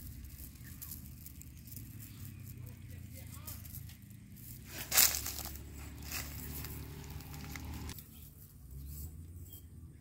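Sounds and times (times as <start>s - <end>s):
net rustling and chain clicking: 0.0s - 9.2s.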